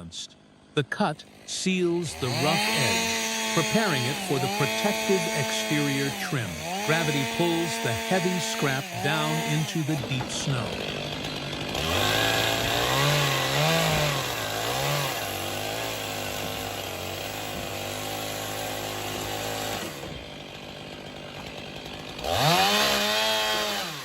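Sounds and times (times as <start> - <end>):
chainsaw engine revving: 0.0 - 24.0.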